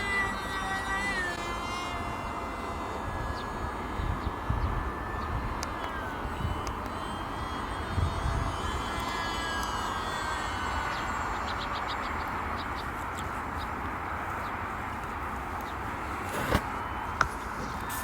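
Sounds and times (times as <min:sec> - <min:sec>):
model airplane motor whining: 0:00.0 - 0:18.0
steady low rumble: 0:01.1 - 0:17.9.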